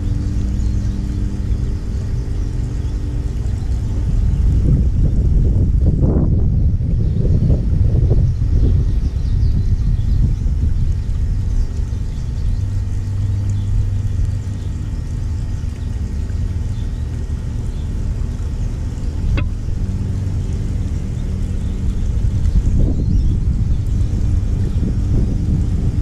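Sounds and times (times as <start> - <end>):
low engine rumble: 0.0 - 26.0.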